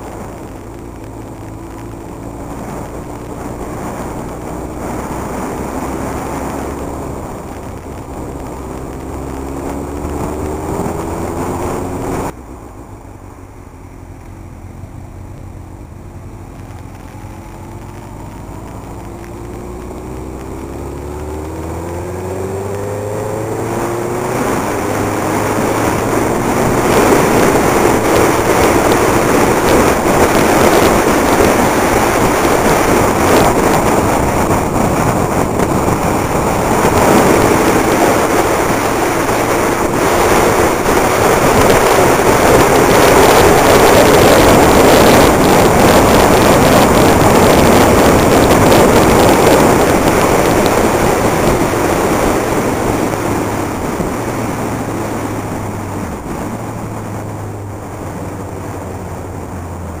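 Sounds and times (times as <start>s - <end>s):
wind rushing over microphone: 0.0s - 13.2s, 13.8s - 60.0s
motorcycle engine running: 0.0s - 60.0s.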